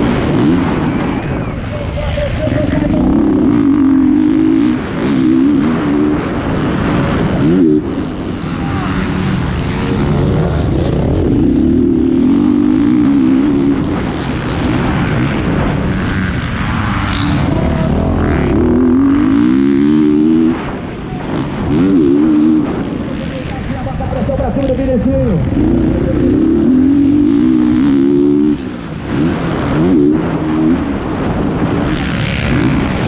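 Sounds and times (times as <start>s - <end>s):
motocross bike engine revving: 0.0s - 33.0s.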